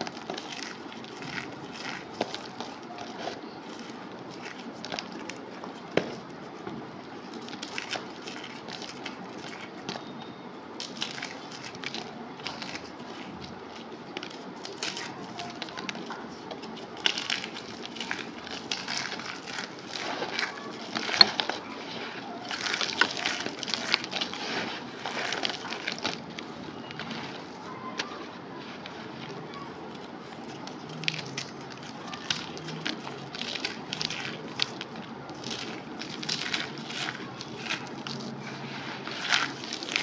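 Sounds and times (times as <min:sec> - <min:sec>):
crunchy snacks crumbling: 0:00.0 - 0:06.3, 0:07.2 - 0:10.1, 0:10.8 - 0:28.2, 0:28.8 - 0:40.0.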